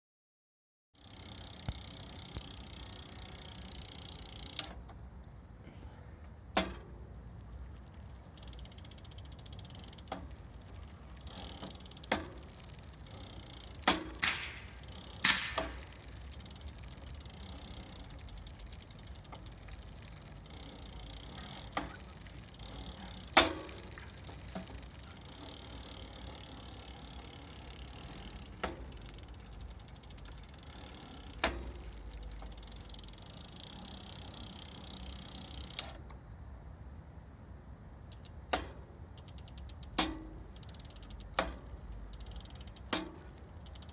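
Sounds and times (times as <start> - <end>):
sharp knocks from bicycle cassette: 1.0 - 4.8, 6.5 - 36.0, 38.1 - 43.9
bicycle freehub ratchet buzzing: 1.0 - 5.2, 6.4 - 36.0, 38.1 - 43.9.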